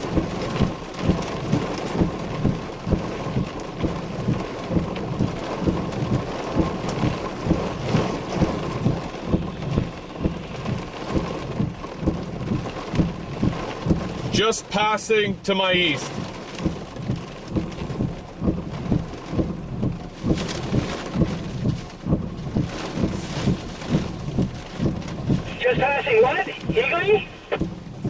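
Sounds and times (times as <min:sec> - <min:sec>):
heavy rain drumming on vehicle: 0:00.0 - 0:28.0
low thumps of rain: 0:00.0 - 0:28.0.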